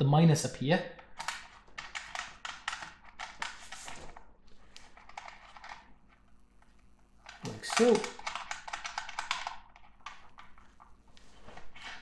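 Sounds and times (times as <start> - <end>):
speaker cable rustling: 1.2 - 12.0.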